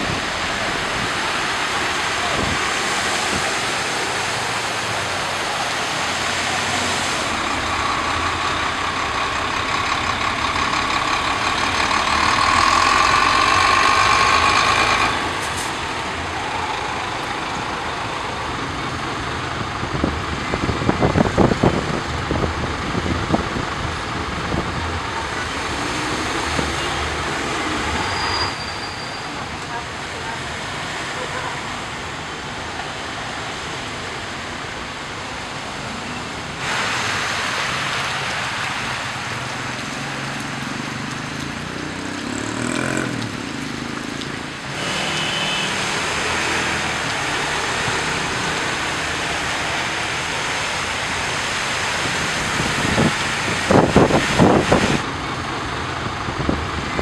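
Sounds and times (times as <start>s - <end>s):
car engines running: 0.0s - 28.1s, 33.6s - 57.0s
tyres splashing through water: 0.0s - 57.0s.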